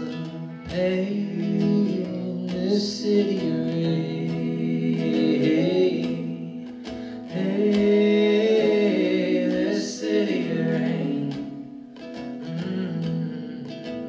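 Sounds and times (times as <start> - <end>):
people singing in harmony: 0.0 - 11.8
acoustic guitar strumming: 0.0 - 14.0.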